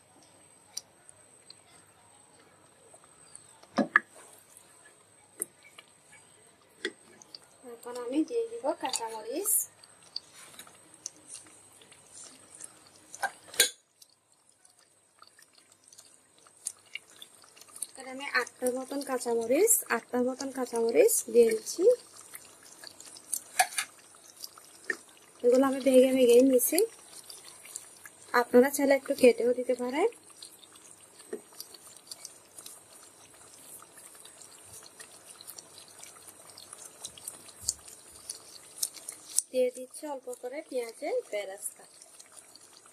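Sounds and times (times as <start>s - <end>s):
curry simmering in a pot: 0.0s - 42.9s.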